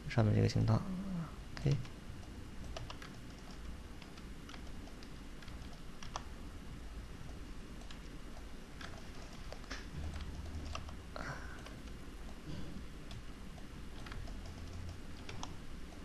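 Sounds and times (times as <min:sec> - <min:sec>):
faint low hum: 0:00.0 - 0:16.0
keyboard and mouse clicks: 0:01.6 - 0:06.3, 0:07.3 - 0:16.0.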